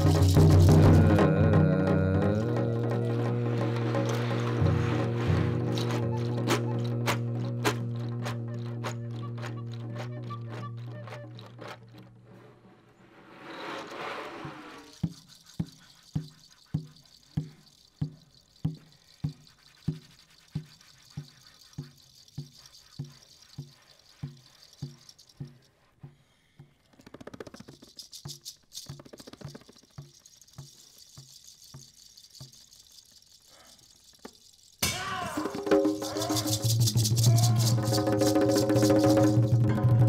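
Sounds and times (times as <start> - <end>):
shaker rattle: 0.0 - 1.4, 2.3 - 12.1, 13.7 - 40.0.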